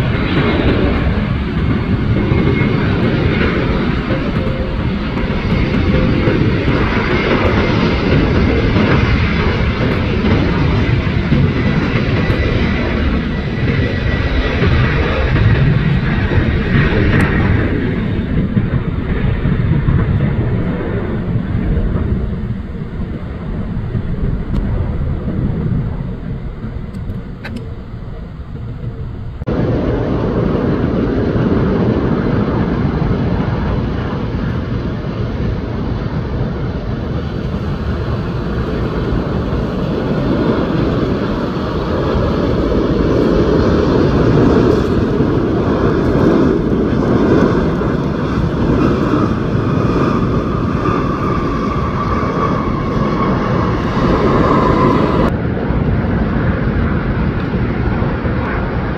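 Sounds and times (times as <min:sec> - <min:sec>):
engine whine: 0:00.0 - 0:58.9
jet engines on runway: 0:00.0 - 0:58.9
jet landing: 0:00.0 - 0:58.9.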